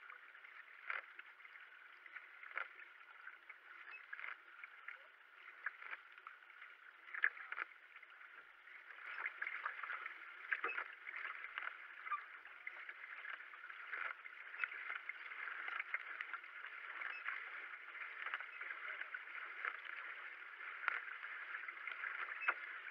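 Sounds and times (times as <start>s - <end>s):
paddle blades splashing: 0.1s - 22.9s.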